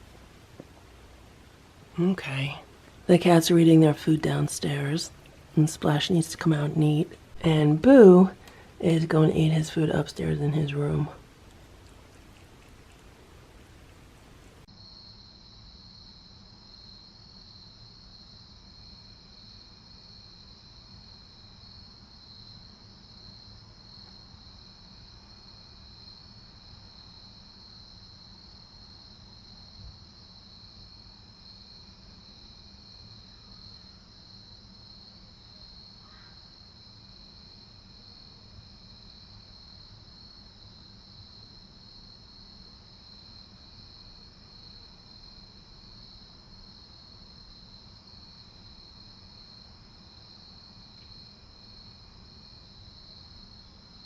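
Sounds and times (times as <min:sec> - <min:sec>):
insect trill: 0:00.0 - 0:54.0
insects chirping chorus: 0:00.0 - 0:54.0.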